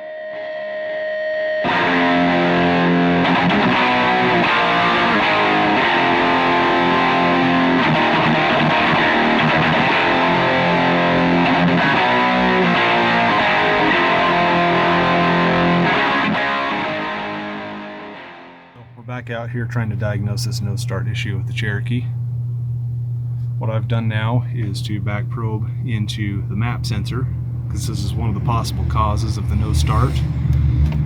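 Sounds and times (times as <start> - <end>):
distorted electric guitar rock: 0.0 - 19.2, 24.7 - 31.0.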